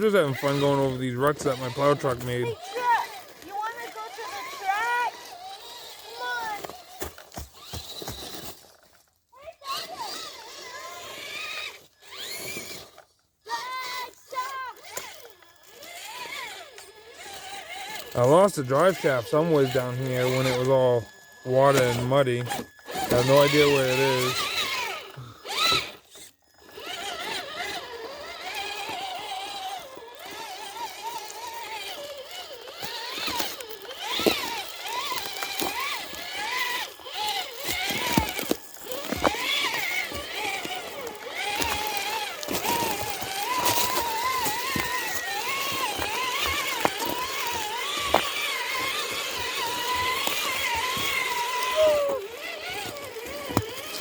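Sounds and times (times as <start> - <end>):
toy truck motor whining: 0.0 - 54.0.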